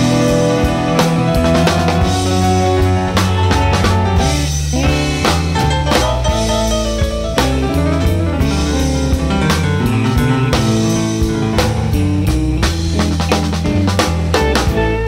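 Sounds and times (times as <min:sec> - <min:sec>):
song with guitar and drums: 0:00.0 - 0:15.0.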